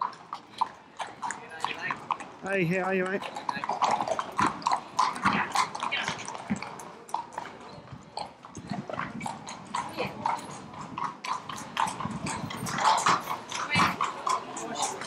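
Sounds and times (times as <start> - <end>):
horse hooves clopping on concrete: 0.0 - 15.0.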